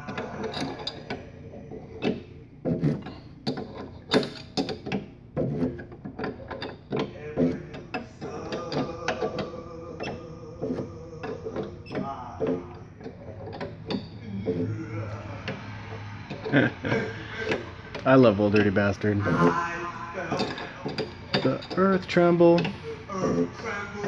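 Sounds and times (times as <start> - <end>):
hand tools clicking and knocking: 0.0 - 24.0.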